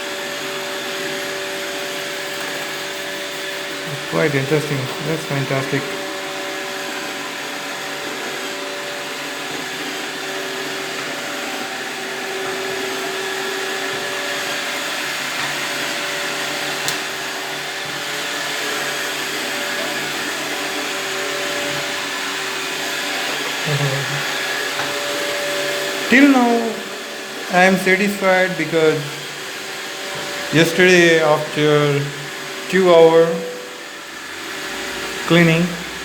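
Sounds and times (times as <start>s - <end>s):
robot vacuum humming: 0.0s - 36.0s.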